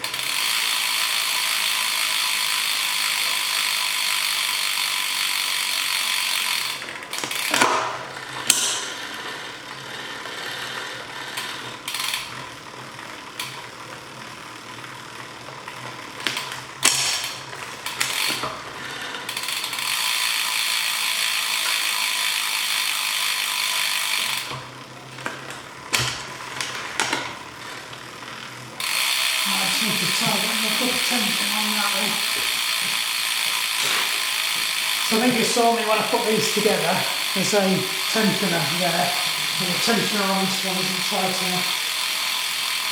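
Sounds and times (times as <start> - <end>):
freehub ratcheting: 0.0 - 13.8, 14.5 - 42.9
bicycle chain whirring: 0.0 - 42.9.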